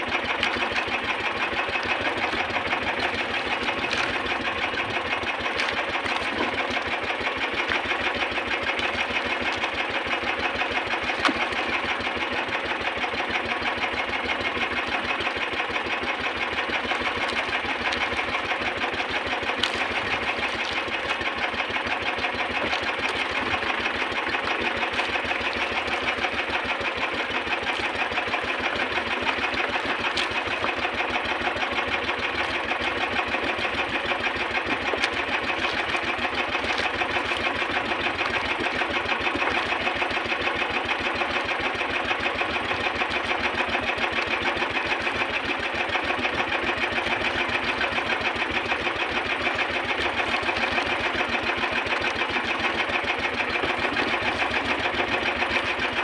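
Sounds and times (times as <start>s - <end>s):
boat engine clattering: 0.0s - 56.0s.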